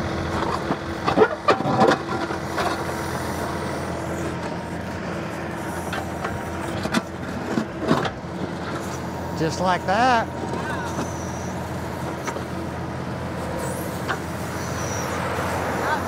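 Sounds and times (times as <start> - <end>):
diesel tractor engine under load: 0.0 - 16.0.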